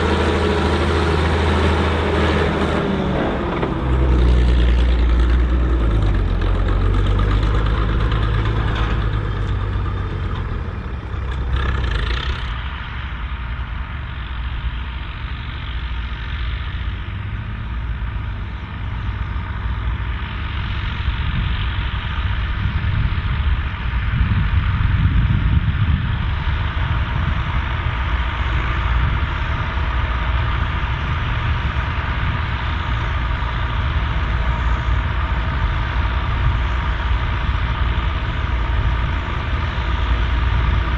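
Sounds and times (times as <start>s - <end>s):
tractor diesel engine droning: 0.0s - 40.9s.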